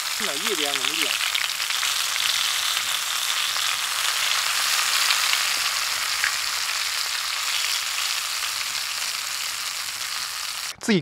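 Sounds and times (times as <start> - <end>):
insects deep-frying in oil: 0.0 - 10.8.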